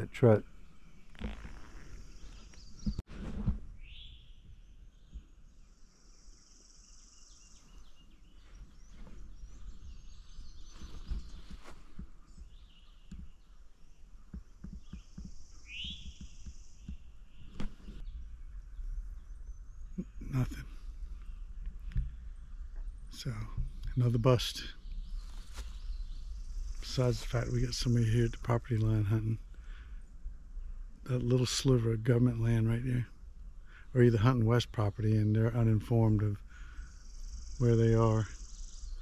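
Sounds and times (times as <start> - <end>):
bird high buzzy song: 0.0 - 3.1, 3.7 - 39.0.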